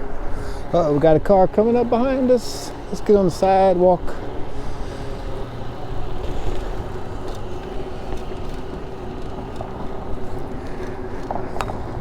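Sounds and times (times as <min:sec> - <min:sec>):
car engine passing slowly: 0:00.0 - 0:12.0.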